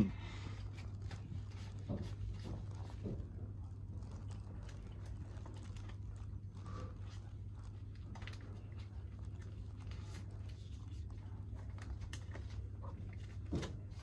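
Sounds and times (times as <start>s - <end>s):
steady low hum: 0.0s - 14.0s
small rustles and clicks: 0.5s - 14.0s.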